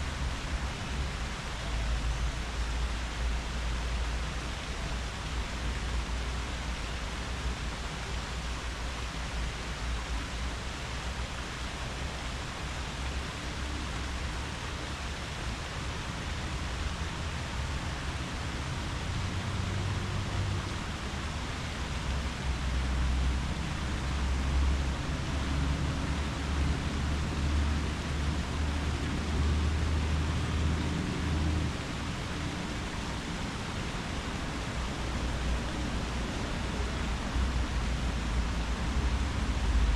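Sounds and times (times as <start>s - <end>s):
wind rustling tree leaves: 0.0s - 39.9s.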